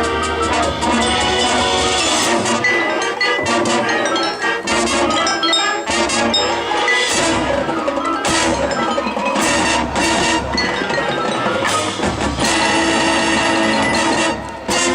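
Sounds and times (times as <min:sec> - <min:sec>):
mallet percussion ringing: 0:00.0 - 0:14.9
marching band playing: 0:00.0 - 0:14.9
sharp percussion strikes: 0:00.0 - 0:14.9.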